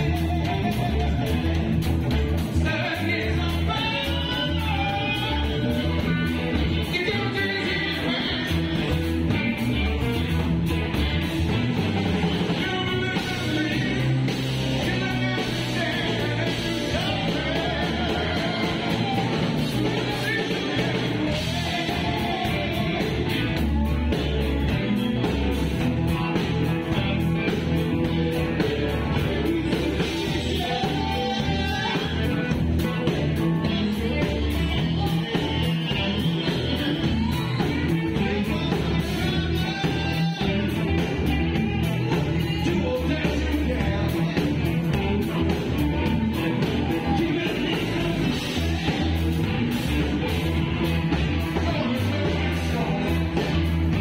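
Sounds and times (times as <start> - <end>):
drum kit: 0.0 - 54.0
electric bass: 0.0 - 54.0
electric guitars: 0.0 - 54.0.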